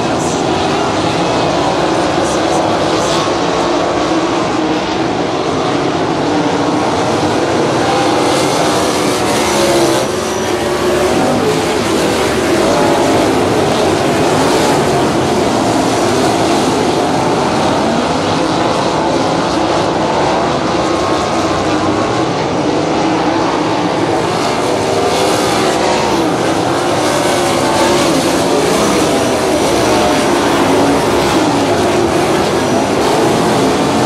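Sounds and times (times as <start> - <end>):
racing car engines roaring: 0.0 - 34.0.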